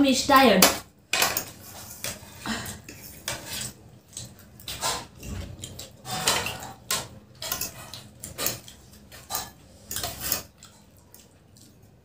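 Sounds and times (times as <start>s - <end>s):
cutlery clinking against plates: 0.6s - 10.6s.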